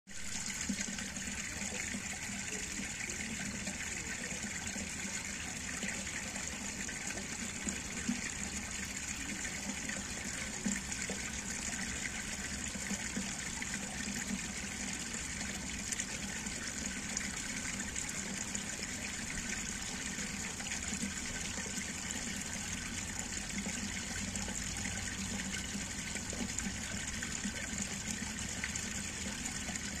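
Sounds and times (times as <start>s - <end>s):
water flowing over cobblestones: 0.1s - 30.0s.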